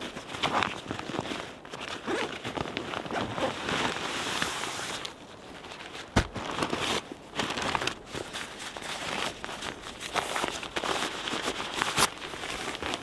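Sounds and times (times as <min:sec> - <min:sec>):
backpack fabric rustling: 0:00.0 - 0:13.0.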